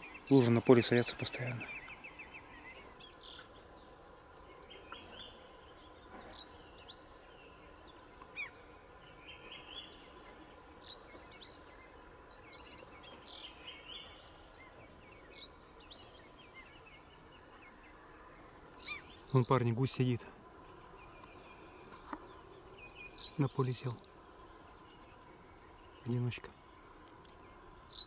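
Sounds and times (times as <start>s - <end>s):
birds chirping and trilling: 0.0s - 28.0s
faint outdoor hiss: 0.0s - 28.0s.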